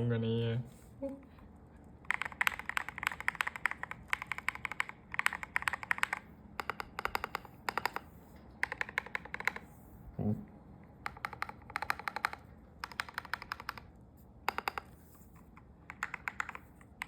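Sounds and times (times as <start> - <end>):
mechanical keyboard typing: 1.9 - 9.7, 11.0 - 17.0.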